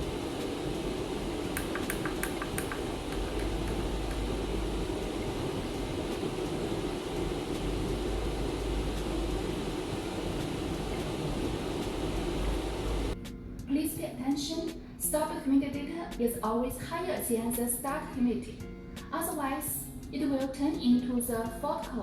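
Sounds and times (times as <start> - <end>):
steady hiss and low hum: 0.0 - 22.0.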